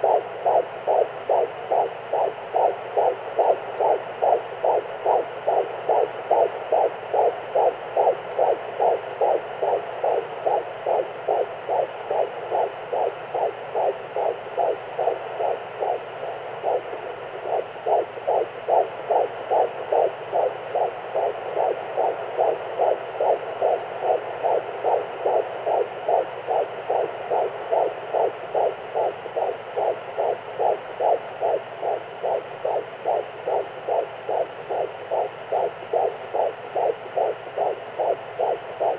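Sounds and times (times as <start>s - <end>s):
fetal heartbeat whooshing pulse: 0.0s - 38.9s.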